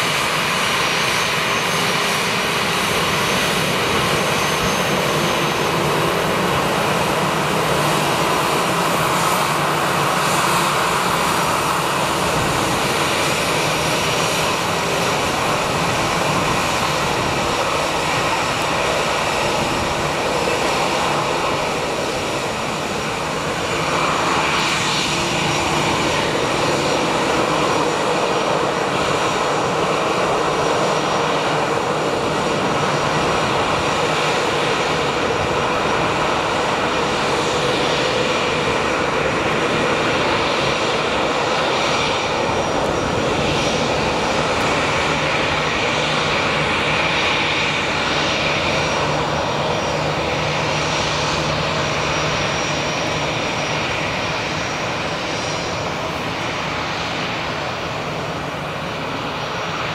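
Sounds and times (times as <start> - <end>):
jet engines whining at taxi power: 0.0 - 59.9.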